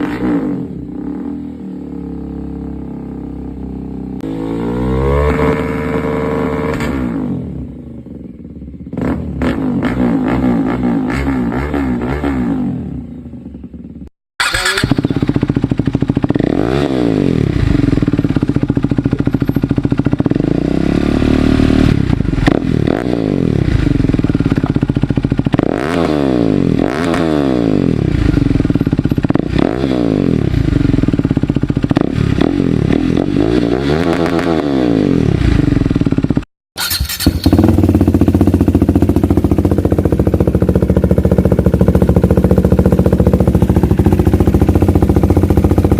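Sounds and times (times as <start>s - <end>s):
motorcycle engine running steadily: 0.0s - 4.8s, 5.4s - 36.5s, 37.1s - 45.9s
motorcycle engine revving: 0.0s - 45.9s.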